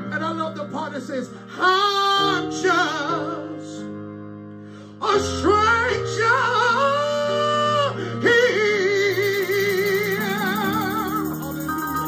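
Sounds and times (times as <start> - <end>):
man singing gospel with vibrato: 0.0 - 3.9, 4.8 - 12.0.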